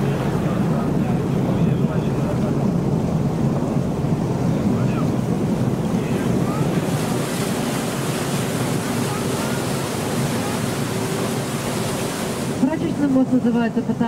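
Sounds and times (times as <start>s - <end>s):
wind noise: 0.0s - 13.0s
boat engine humming: 0.0s - 14.0s
water wash: 0.0s - 14.0s.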